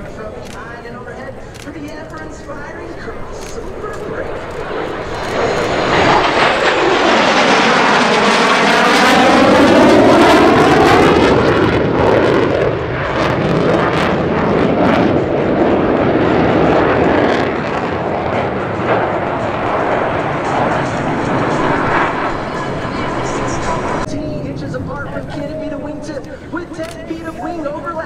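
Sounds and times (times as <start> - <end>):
fighter jets passing: 0.0 - 28.0.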